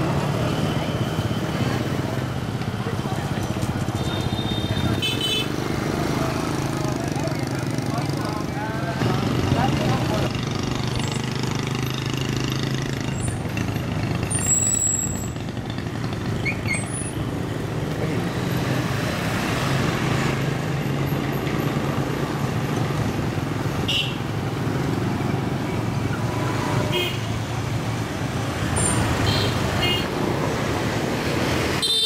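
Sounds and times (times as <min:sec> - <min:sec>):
motor scooters passing: 0:00.0 - 0:32.0.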